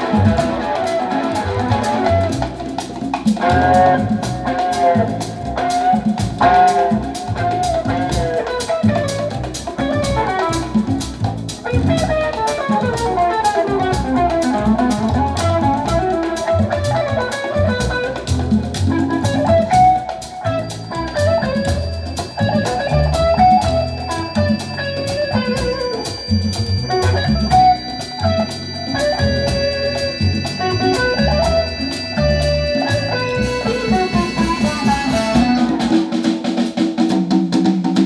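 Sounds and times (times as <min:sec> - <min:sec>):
melodic guitar line: 0:00.0 - 0:36.6
drum kit beat: 0:00.0 - 0:38.0.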